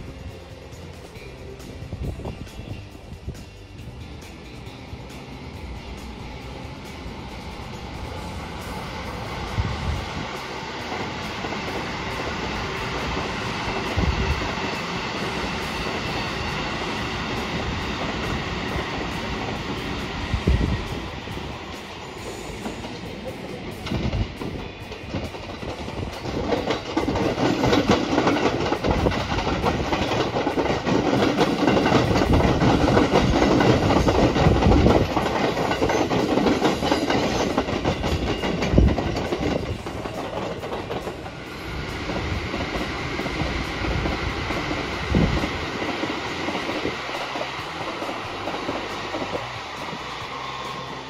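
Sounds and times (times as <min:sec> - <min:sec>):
electric train passing: 0:00.0 - 0:51.0
train wheels clattering over rail joints: 0:00.0 - 0:51.0.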